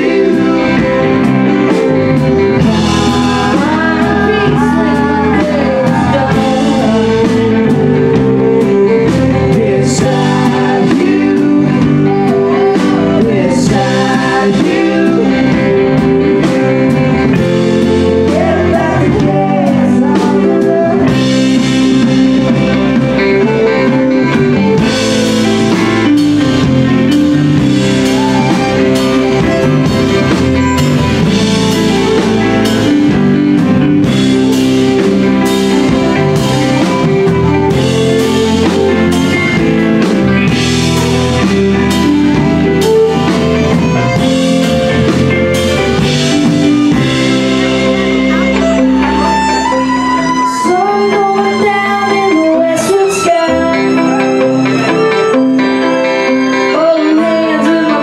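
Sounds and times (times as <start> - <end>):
live band music: 0.0 - 58.0
violin: 0.0 - 58.0.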